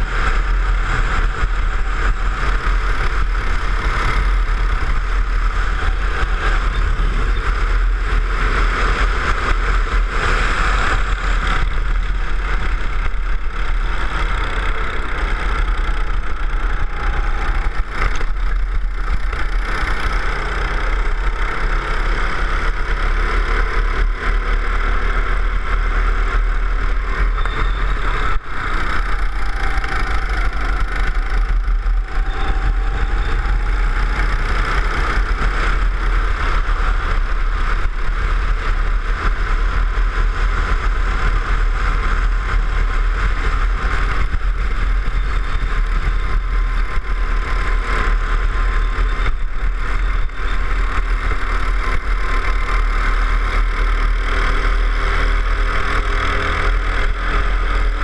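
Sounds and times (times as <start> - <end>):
constant low rumble: 0.0 - 58.0
go-kart engine revving: 0.0 - 58.0.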